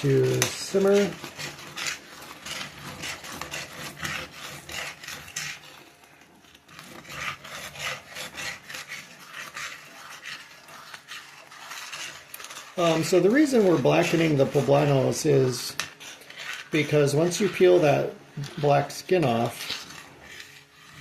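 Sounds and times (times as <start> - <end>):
spoon scraping pot of rice: 0.0 - 21.0.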